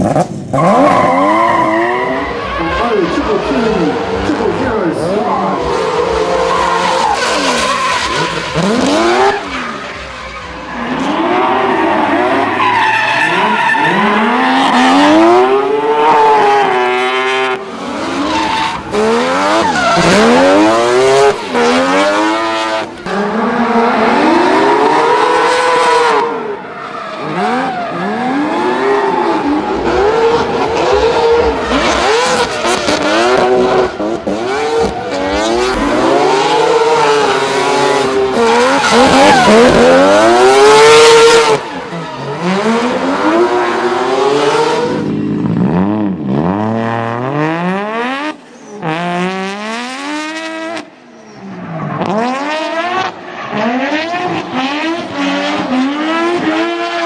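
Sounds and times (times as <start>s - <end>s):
car engines revving: 0.0s - 57.0s
tyres screeching on tarmac: 0.5s - 44.9s, 51.0s - 52.4s.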